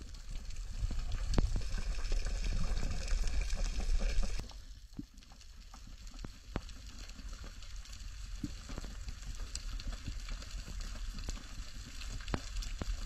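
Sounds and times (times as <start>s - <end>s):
low underwater rumble: 0.0s - 13.0s
underwater crackling and clicking: 0.0s - 13.0s.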